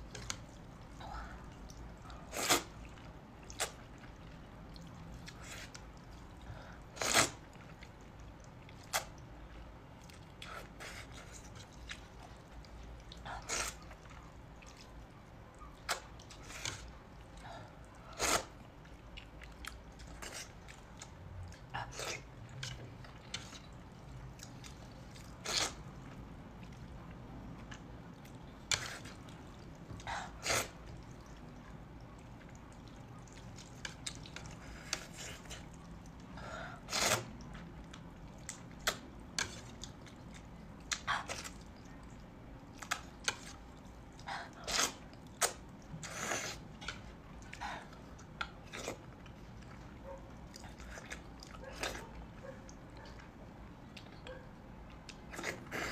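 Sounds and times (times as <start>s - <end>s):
slurping and chewing noodles: 0.1s - 53.2s, 54.9s - 55.9s.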